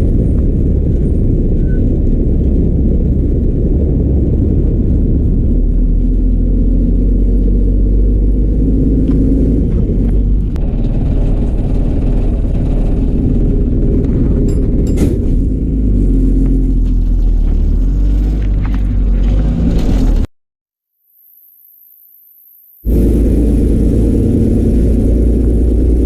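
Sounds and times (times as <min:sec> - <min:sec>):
bus engine and road rumble: 0:00.0 - 0:20.3, 0:22.8 - 0:26.0.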